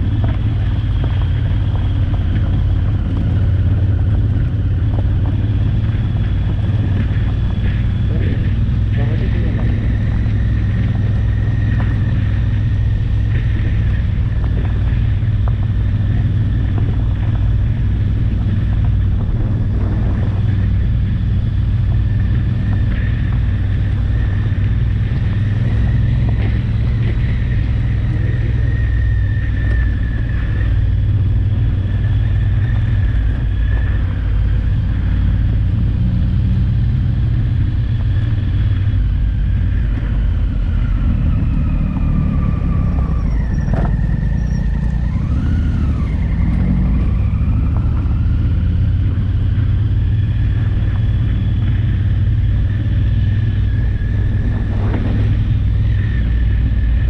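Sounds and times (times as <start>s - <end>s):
high wavering whine: 0.0s - 57.0s
motorcycle engine rumble: 0.0s - 57.0s.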